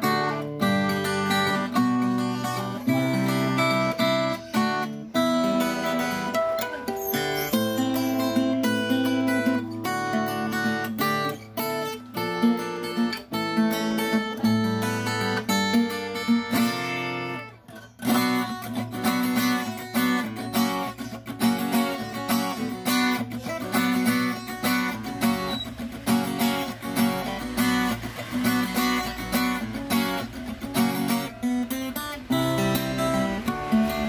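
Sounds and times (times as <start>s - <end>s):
acoustic guitar chords strummed: 0.0s - 34.0s.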